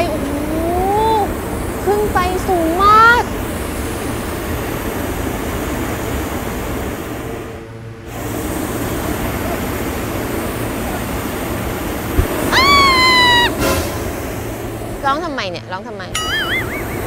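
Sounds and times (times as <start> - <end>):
propane burner hissing blast: 0.0 - 15.4.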